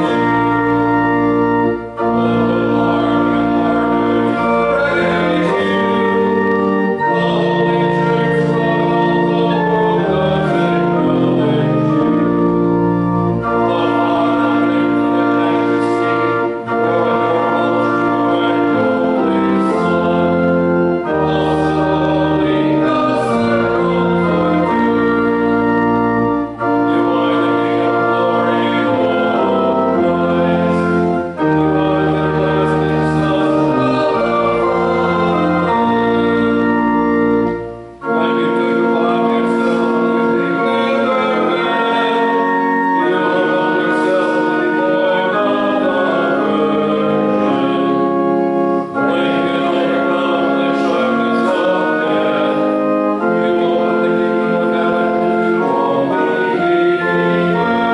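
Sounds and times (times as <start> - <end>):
church organ playing a hymn: 0.0 - 57.9
low organ pedal bass line: 0.0 - 57.9.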